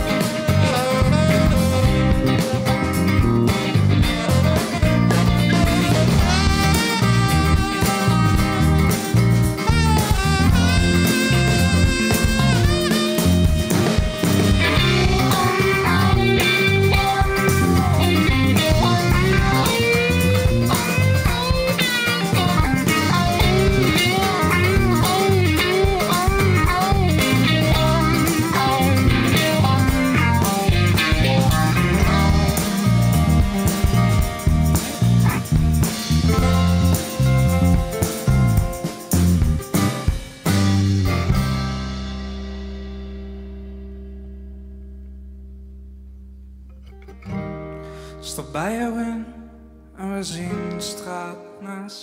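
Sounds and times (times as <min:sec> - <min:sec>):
live band playing: 0:00.0 - 0:44.3
drums: 0:00.0 - 0:46.6, 0:47.2 - 0:51.6
bass guitar: 0:00.0 - 0:51.8
electric guitar lead with bends: 0:00.0 - 0:51.9.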